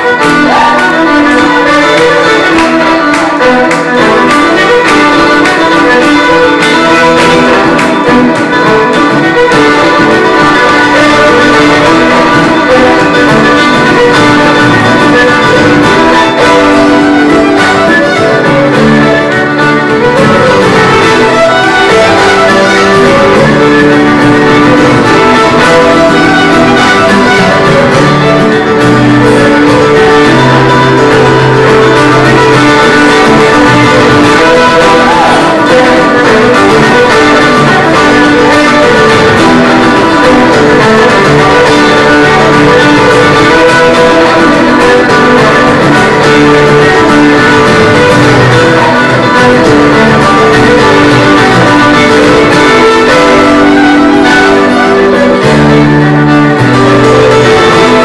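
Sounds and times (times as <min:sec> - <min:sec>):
fiddle: 0:00.0 - 0:58.0
guitars: 0:00.0 - 0:58.0.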